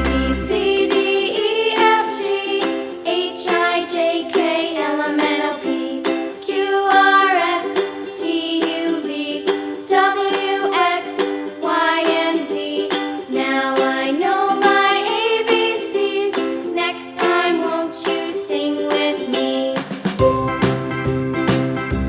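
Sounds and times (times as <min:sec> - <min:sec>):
cheerful song with sung melody: 0:00.0 - 0:22.0
plucked ukulele-like accompaniment: 0:00.0 - 0:22.0.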